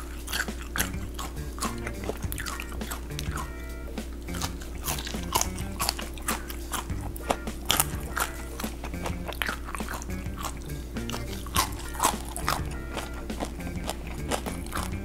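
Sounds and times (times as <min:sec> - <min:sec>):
close chewing and crunching: 0:00.0 - 0:03.6, 0:04.2 - 0:15.0
background music: 0:00.0 - 0:15.0
mouth clicks: 0:00.0 - 0:15.0.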